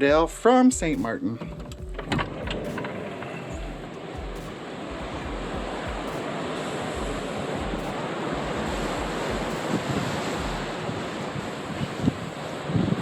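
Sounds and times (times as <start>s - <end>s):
wind buffeting microphone: 0.8s - 13.0s
sea rushing past ship hull: 2.0s - 13.0s.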